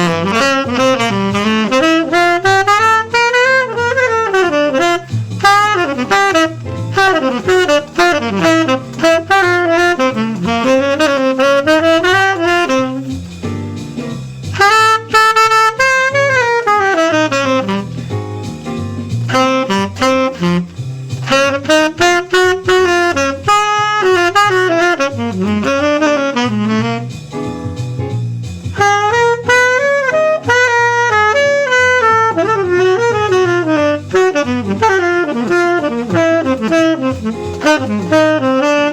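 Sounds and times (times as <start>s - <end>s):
jazz accompaniment with bass line: 0.0s - 38.9s
jazz saxophone improvising: 0.0s - 38.9s.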